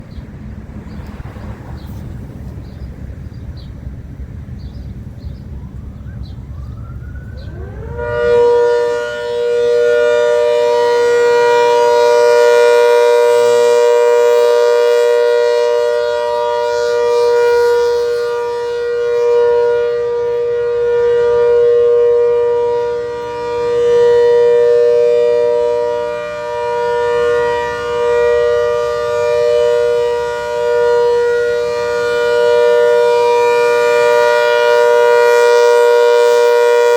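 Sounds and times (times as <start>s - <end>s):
civil defense siren winding: 5.5s - 36.9s.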